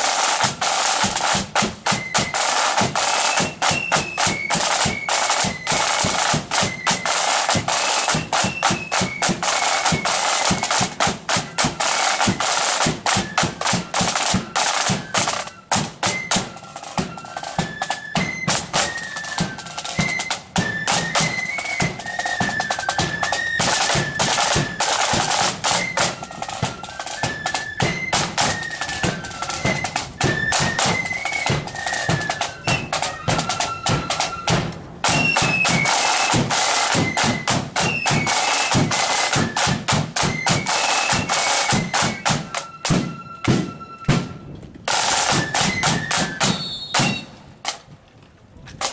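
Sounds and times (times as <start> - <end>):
rapid snare drumming: 0.0 - 44.3, 44.9 - 47.8
high flute melody: 0.0 - 47.5.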